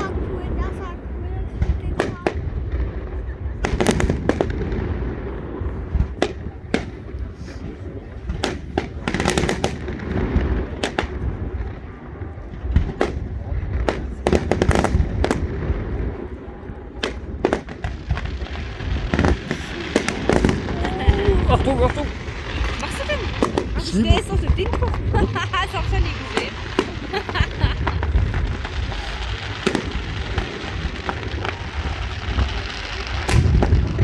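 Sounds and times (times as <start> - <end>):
rolling rumble of echoes: 0.0 - 34.0.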